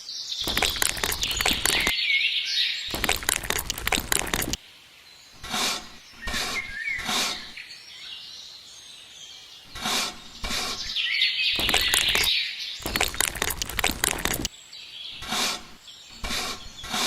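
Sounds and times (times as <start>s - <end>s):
birds chirping: 0.2s - 4.6s, 5.2s - 17.0s.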